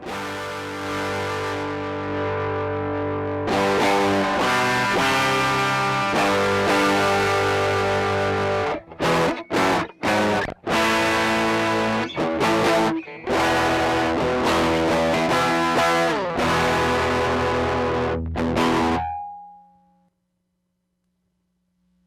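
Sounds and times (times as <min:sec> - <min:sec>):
electric guitar chords: 0:00.0 - 0:19.5.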